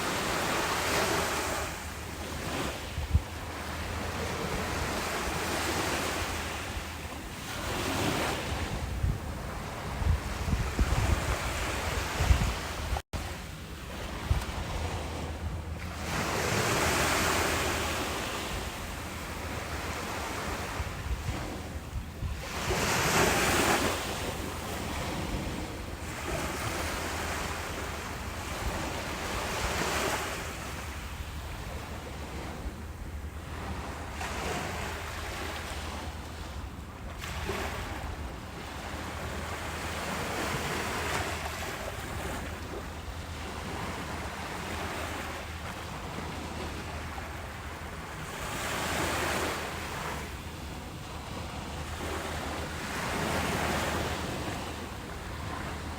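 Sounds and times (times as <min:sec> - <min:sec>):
waves breaking on beach: 0:00.0 - 0:55.9.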